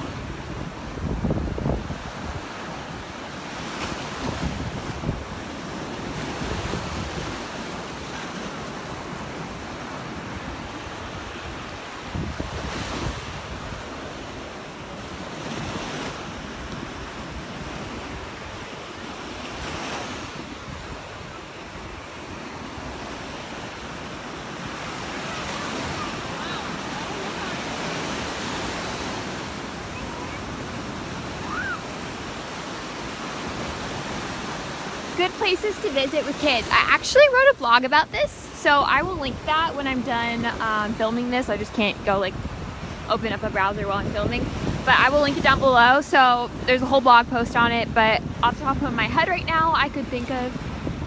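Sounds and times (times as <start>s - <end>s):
wind buffeting microphone: 0.0s - 18.8s, 19.4s - 51.0s
surf washing onto beach: 0.0s - 51.0s.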